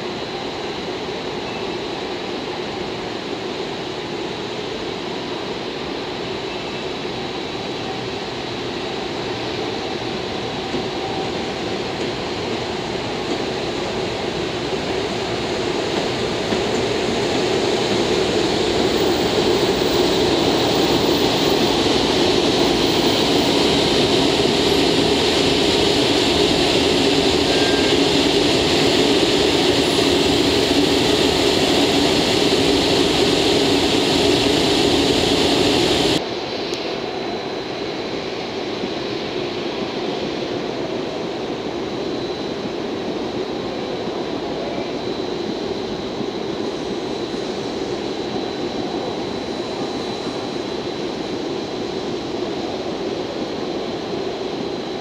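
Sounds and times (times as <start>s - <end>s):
electric locomotive hum and hiss: 0.0s - 55.0s.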